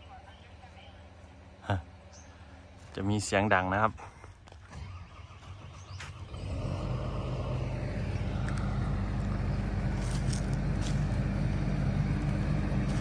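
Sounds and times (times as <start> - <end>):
excavator diesel engine drone: 0.0 - 13.0.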